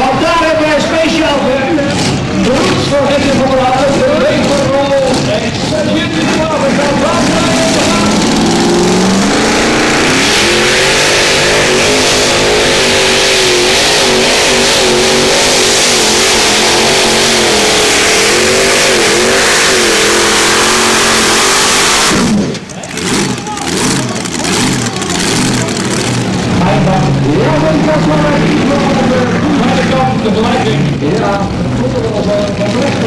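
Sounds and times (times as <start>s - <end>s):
tractor engine at full throttle: 0.0s - 33.0s.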